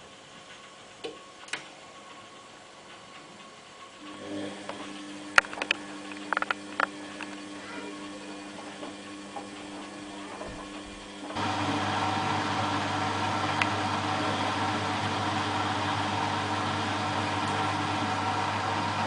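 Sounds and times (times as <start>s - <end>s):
laundry appliance running: 0.0s - 19.0s
motor humming: 0.9s - 19.0s.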